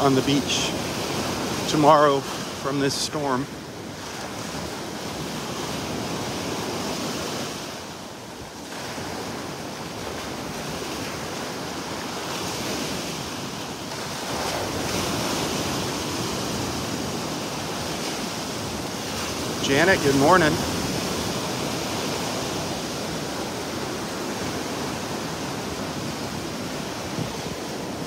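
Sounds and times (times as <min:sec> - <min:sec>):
surf washing on beach: 0:00.0 - 0:28.0
wind buffeting microphone: 0:03.6 - 0:28.0.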